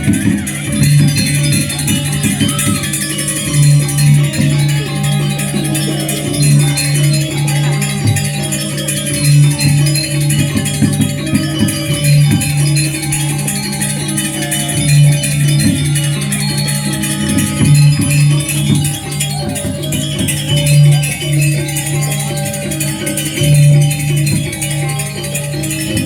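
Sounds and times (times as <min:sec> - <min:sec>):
jangling cymbals and metallophones: 0:00.0 - 0:26.0.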